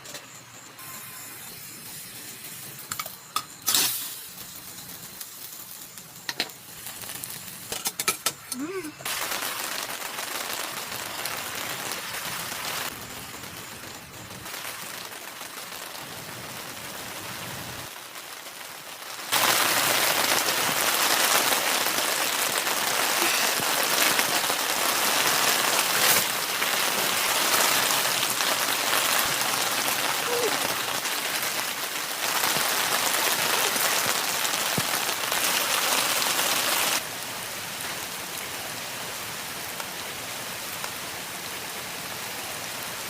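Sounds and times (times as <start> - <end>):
rain falling: 1.6 - 43.0.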